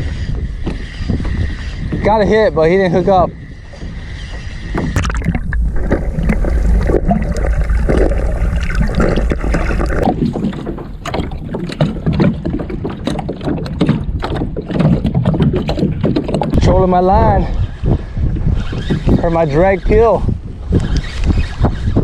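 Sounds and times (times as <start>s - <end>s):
water splashing at hull: 0.0s - 22.0s
wind rumbling on microphone: 0.0s - 22.0s.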